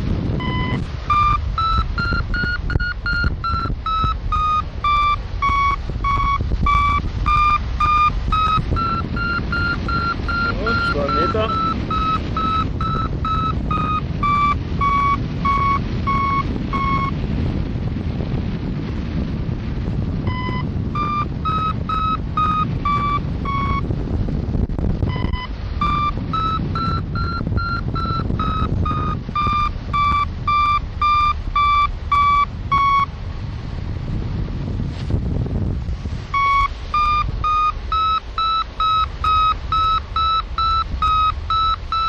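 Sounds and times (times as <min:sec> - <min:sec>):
wind over microphone: 0:00.0 - 0:42.0
variometer beeping: 0:00.3 - 0:17.5, 0:20.1 - 0:33.2, 0:36.2 - 0:42.0.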